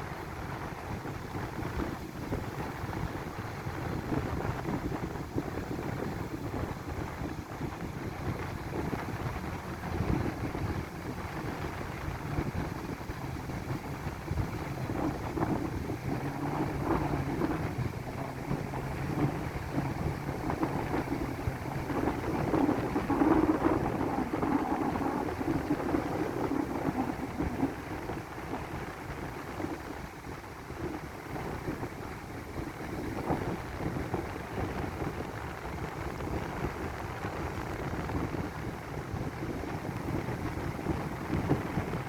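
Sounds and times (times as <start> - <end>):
low engine hum: 0.0 - 42.0
wind buffeting microphone: 0.0 - 42.0.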